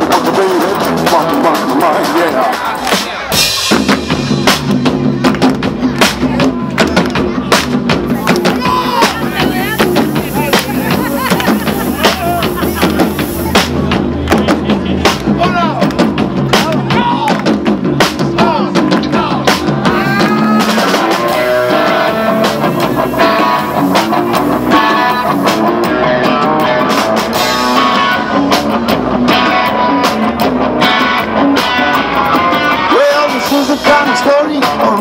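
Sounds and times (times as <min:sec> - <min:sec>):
live rock and roll band: 0:00.0 - 0:35.0.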